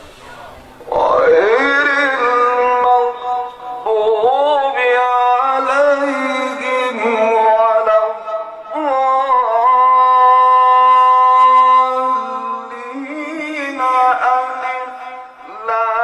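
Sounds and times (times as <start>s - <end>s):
man chanting melodically: 0.3s - 16.0s.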